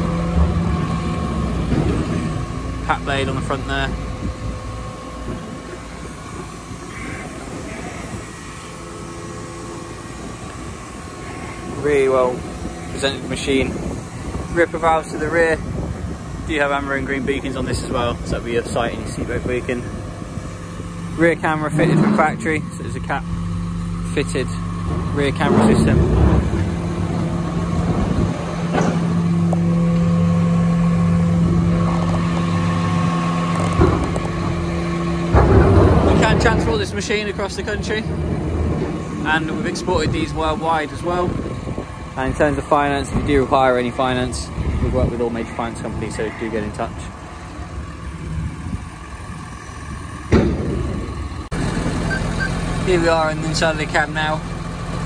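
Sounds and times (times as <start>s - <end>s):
engine idling: 0.0s - 55.0s
faint constant whine: 0.0s - 55.0s.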